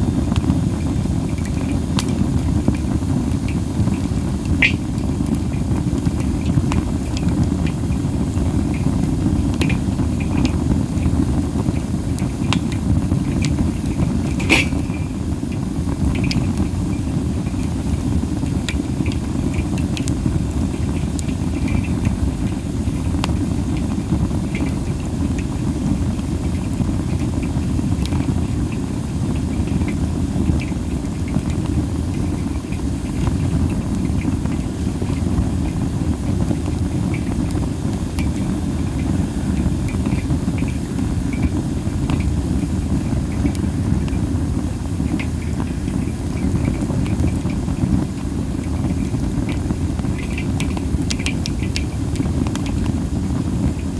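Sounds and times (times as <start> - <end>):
fire pops and crackles: 0.0 - 53.9
low rumble of wind: 0.0 - 53.9
wood fire hissing: 0.0 - 53.9.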